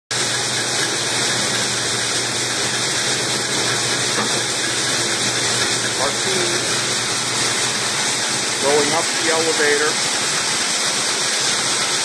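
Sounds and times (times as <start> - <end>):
seed cleaning machinery hissing: 0.1 - 12.0.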